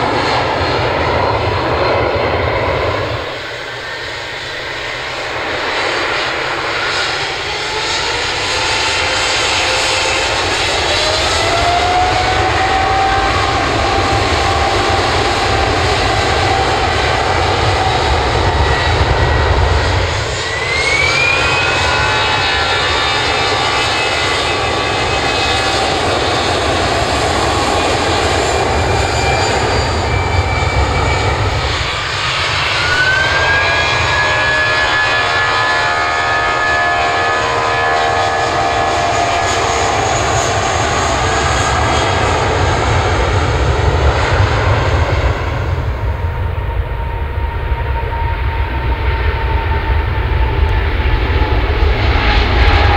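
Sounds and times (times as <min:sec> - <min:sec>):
jet airliner taking off: 0:00.0 - 0:52.9
jet engine rising whine: 0:00.0 - 0:52.9.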